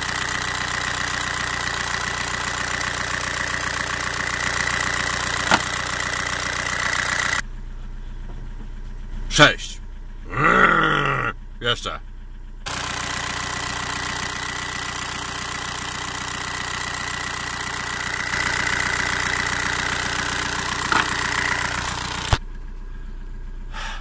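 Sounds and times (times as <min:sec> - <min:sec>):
diesel engine idling with ticking: 0:00.0 - 0:24.0.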